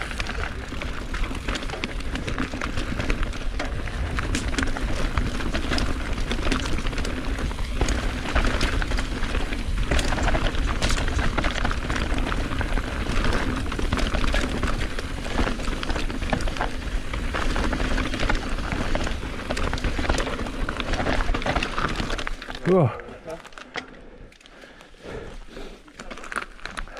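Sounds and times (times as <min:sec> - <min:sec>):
bike knocking and rattling: 0:00.0 - 0:24.3.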